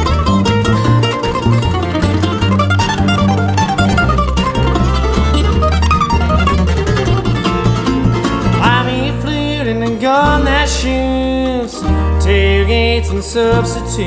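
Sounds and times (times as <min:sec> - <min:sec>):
bass line: 0:00.0 - 0:14.0
mandolin picking quick runs: 0:00.0 - 0:14.0
strummed rhythm guitar: 0:00.0 - 0:14.0.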